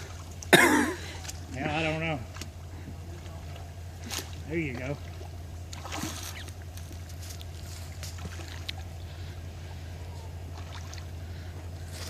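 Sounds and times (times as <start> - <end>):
creek water sloshing and splashing: 0.0 - 12.0
steady low rumble: 0.0 - 12.0.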